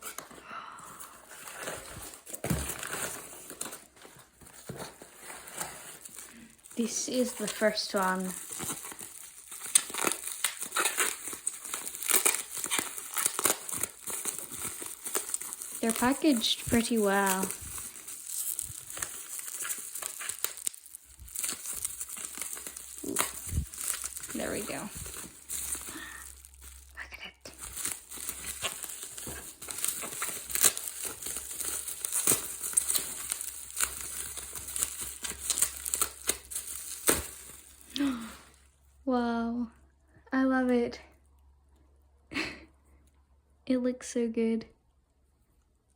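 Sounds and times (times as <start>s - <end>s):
packaging crinkling: 0.0s - 38.7s.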